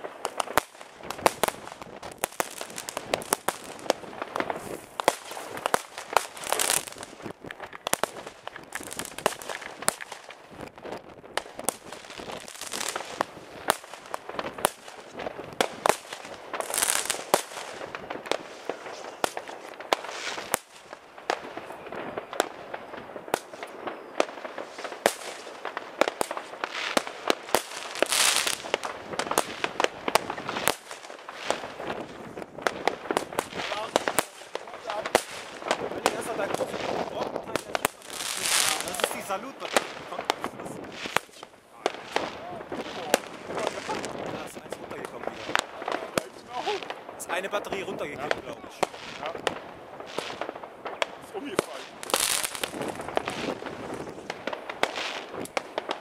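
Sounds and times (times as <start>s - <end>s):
crackling hiss of firecrackers: 0.0s - 56.0s
fireworks bangs: 0.0s - 56.0s.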